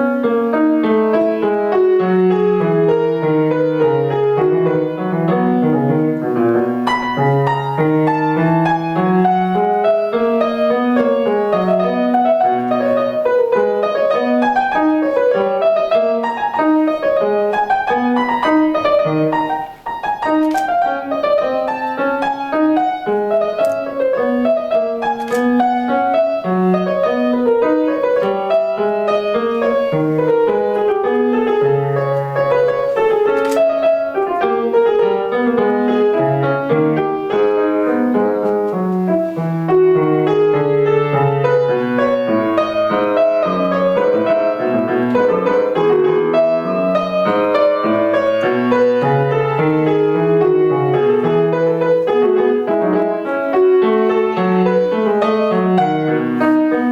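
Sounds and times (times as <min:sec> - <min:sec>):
classical piano piece: 0:00.0 - 0:56.9.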